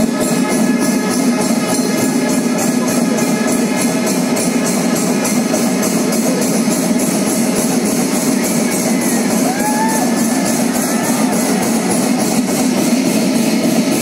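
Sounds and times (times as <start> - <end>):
drums playing: 0.0 - 14.0
hand cymbals clashing: 0.0 - 14.0.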